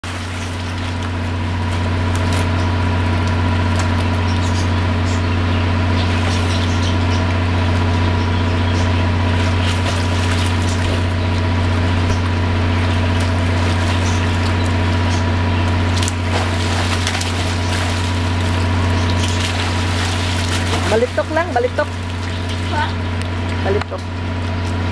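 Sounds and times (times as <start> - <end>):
water splashing in a pool: 0.0 - 5.0, 5.7 - 8.0, 9.1 - 15.1, 15.7 - 23.6
low mechanical hum: 0.0 - 24.9.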